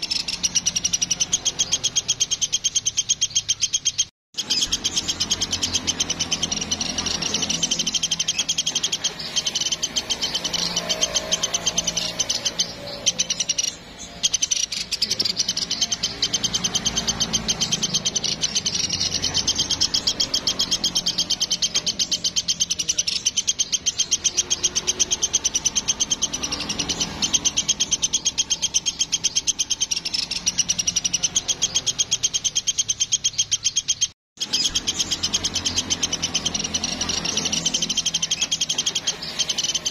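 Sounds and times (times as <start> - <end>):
bird high trill: 0.0 - 39.9
softer lower bird calls: 0.0 - 39.9.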